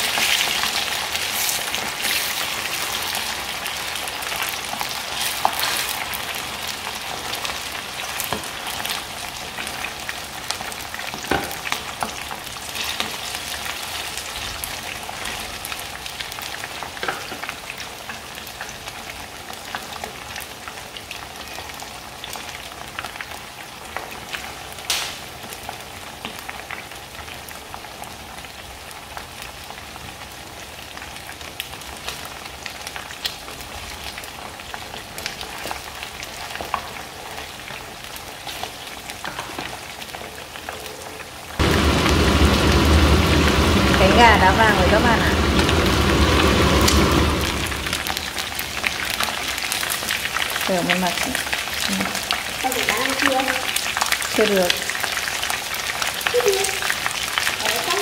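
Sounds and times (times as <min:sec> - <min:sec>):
chicken frying in oil: 0:00.0 - 0:58.0.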